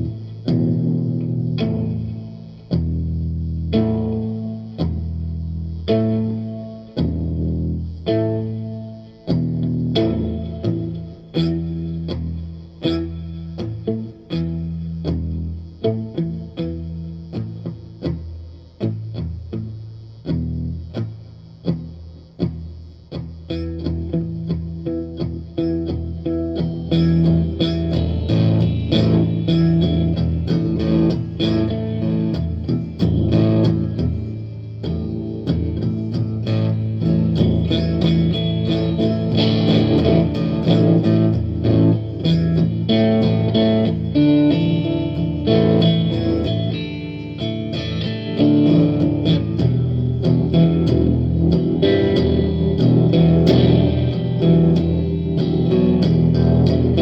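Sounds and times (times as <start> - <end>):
electric guitar plucked notes: 0.0 - 57.0.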